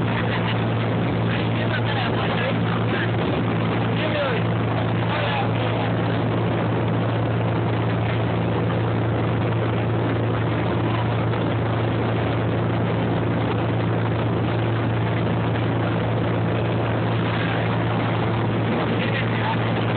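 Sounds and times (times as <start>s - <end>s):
motorboat engine droning: 0.0s - 19.9s.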